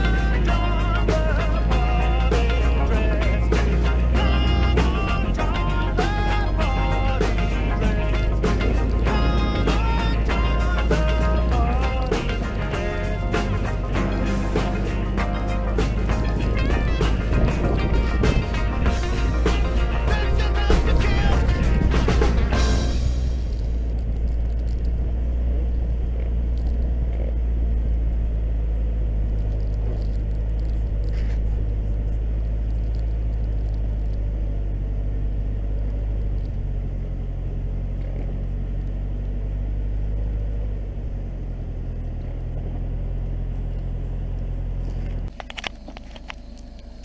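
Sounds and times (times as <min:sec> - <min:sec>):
truck engine under load: 0:00.0 - 0:47.0.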